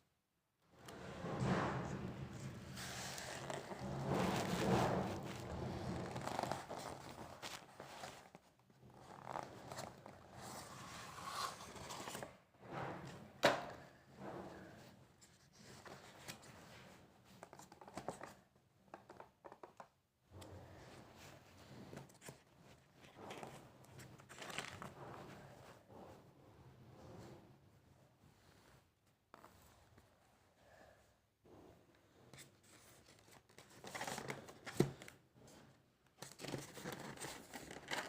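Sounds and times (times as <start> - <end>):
rustling and scraping: 0.8 - 19.7, 20.3 - 27.6, 31.5 - 38.0.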